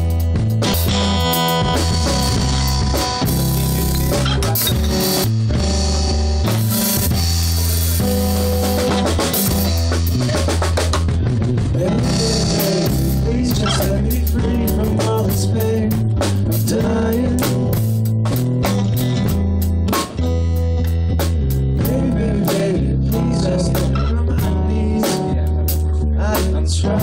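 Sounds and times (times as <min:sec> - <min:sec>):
bass line: 0:00.0 - 0:27.0
drum kit playing: 0:00.0 - 0:27.0.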